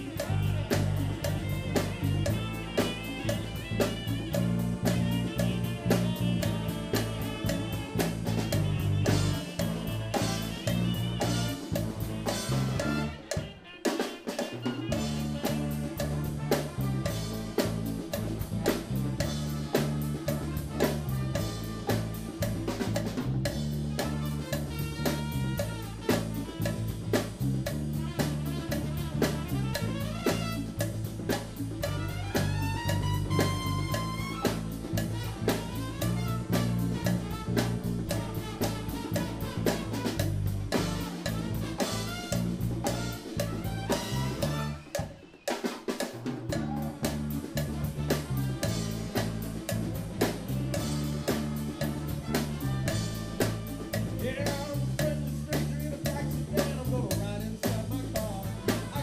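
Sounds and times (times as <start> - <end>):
walking bass line: 0.0 - 13.5, 14.7 - 45.0, 46.4 - 59.0
big band jazz: 0.0 - 59.0
drum kit with rimshots: 0.0 - 59.0
trumpets: 0.0 - 59.0.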